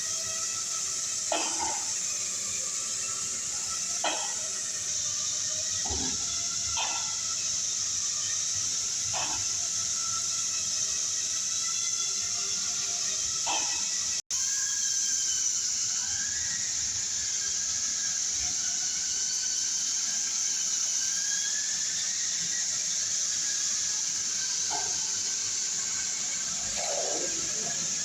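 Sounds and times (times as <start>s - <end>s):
machine steady high hiss: 0.0s - 28.0s.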